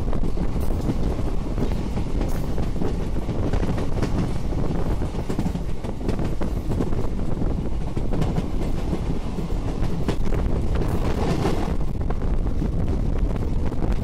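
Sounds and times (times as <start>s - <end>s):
rumble of wheels on rails: 0.0s - 14.0s
wind on microphone: 0.0s - 14.0s.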